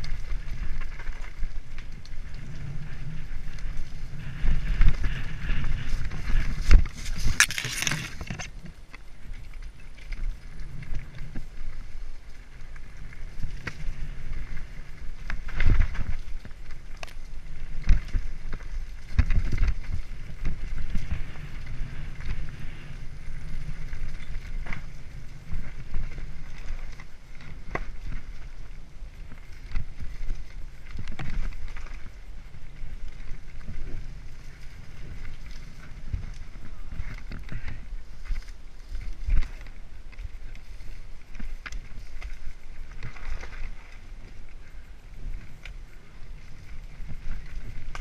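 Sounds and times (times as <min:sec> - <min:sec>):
bike tyres rumbling over dirt: 0:00.0 - 0:48.0.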